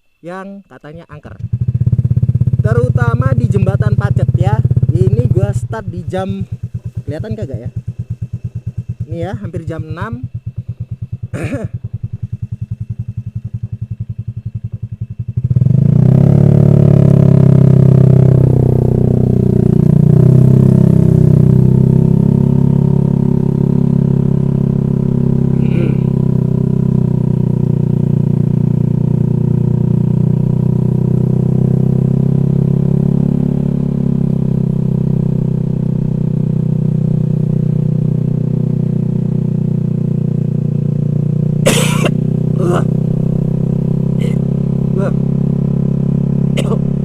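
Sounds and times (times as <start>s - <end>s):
scooter engine running: 1.3s - 47.0s.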